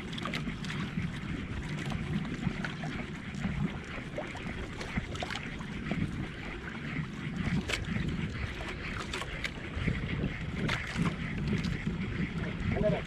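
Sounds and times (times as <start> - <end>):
small waves slapping a canoe hull: 0.0 - 13.0
wind buffeting microphone: 0.0 - 13.0.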